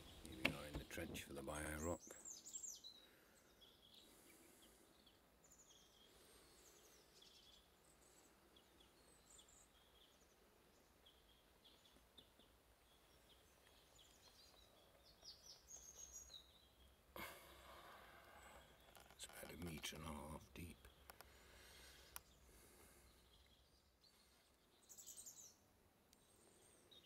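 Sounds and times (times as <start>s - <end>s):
faint birdsong chirps: 0.0s - 27.0s.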